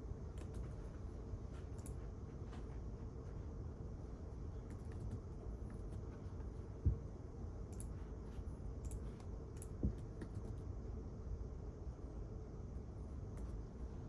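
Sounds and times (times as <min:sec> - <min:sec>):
low ventilation rumble: 0:00.0 - 0:14.0.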